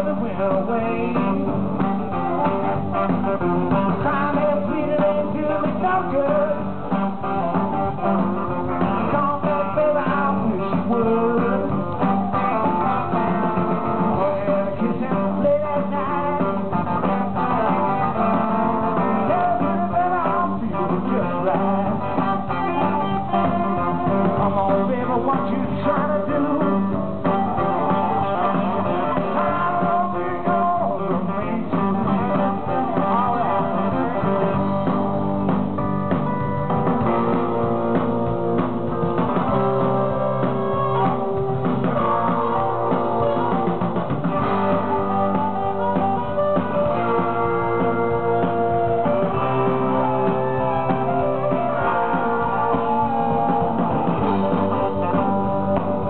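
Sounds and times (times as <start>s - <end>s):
electric guitars: 0.0s - 56.0s
live blues-rock band: 0.0s - 56.0s.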